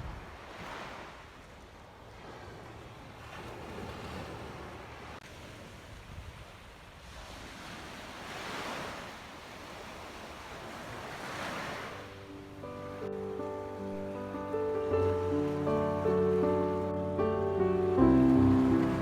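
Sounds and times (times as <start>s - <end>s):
sea waves washing onto shore: 0.0s - 19.0s.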